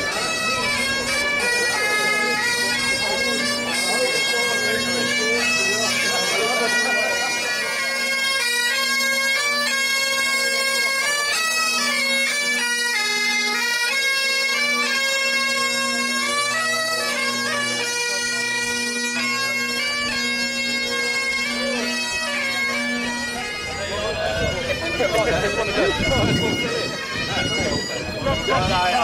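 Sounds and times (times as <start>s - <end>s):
bagpipes and bombarde marching tune: 0.0s - 29.0s.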